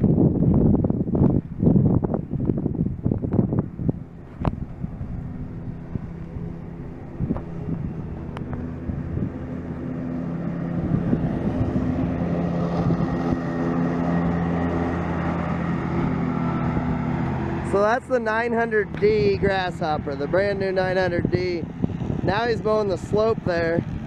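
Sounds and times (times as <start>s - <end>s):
diesel mower engine running: 0.0s - 24.0s
mower cutting grass: 3.3s - 24.0s.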